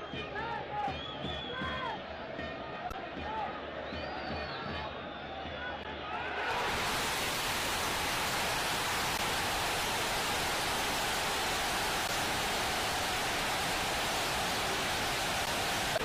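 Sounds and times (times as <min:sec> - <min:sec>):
stadium crowd roaring: 0:00.3 - 0:16.0.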